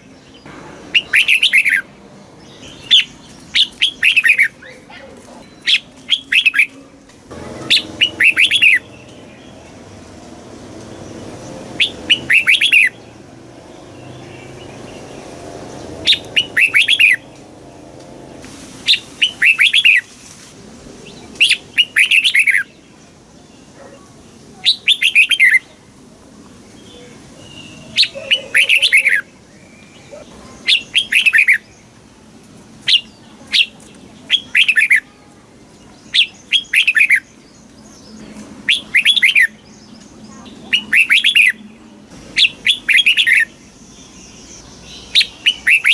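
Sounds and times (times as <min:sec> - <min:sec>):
bird singing bright phrases: 0:00.0 - 0:20.1, 0:21.0 - 0:45.9.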